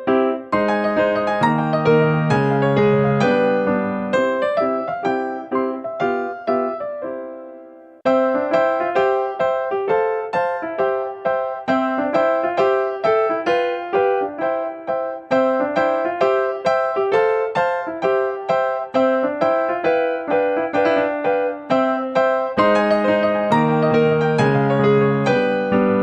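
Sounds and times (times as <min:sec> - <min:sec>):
light keyboard tune: 0:00.0 - 0:26.0.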